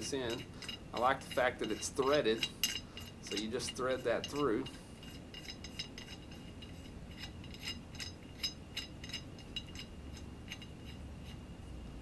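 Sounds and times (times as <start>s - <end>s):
metal screw clicking while threaded: 0.0s - 11.4s.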